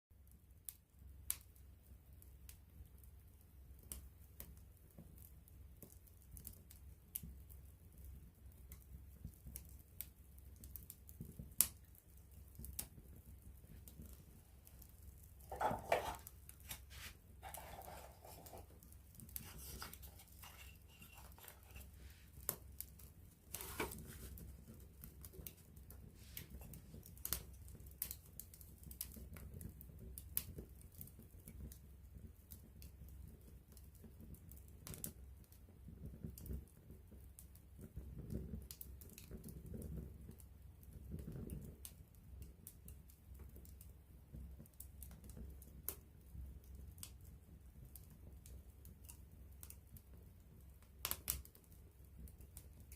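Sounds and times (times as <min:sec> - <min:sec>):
campfire crackling and popping: 0:00.2 - 0:52.9.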